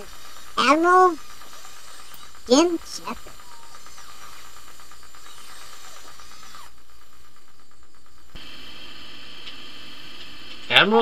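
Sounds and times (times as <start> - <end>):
electronic hum and hiss: 0.0 - 11.0.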